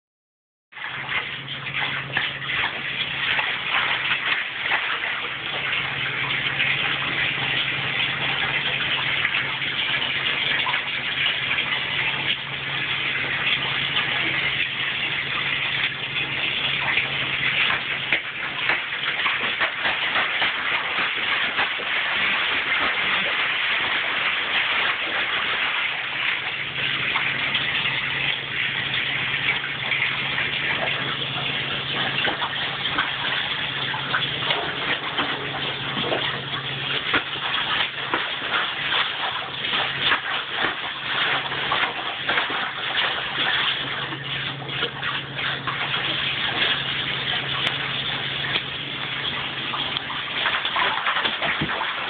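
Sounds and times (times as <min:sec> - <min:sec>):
bathtub tap running: 0:00.8 - 0:52.0
dog splashing in water: 0:00.8 - 0:52.0
low steady hum: 0:00.8 - 0:52.0.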